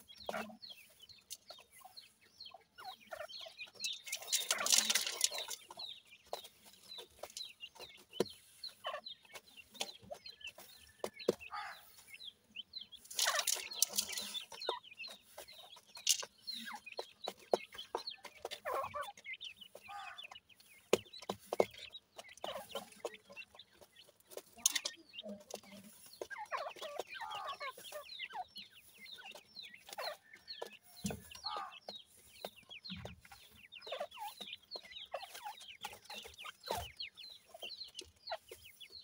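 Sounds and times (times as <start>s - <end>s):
chicks chirping: 0.0s - 39.0s
pecking and scratching in gravel: 0.0s - 39.0s.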